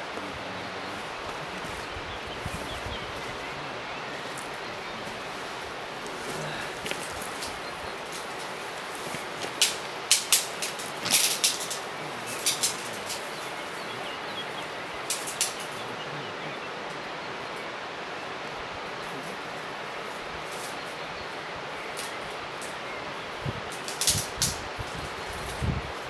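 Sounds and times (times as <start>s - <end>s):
small birds chirping: 0.0s - 26.0s
steady hiss: 0.0s - 26.0s.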